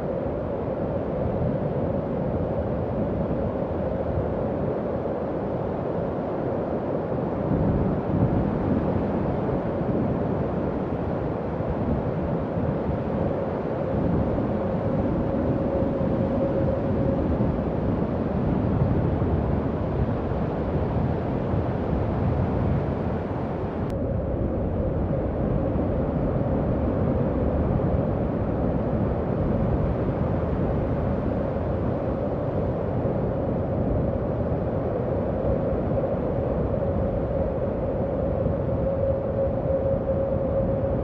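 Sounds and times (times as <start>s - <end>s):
howling wind: 0.0s - 41.0s.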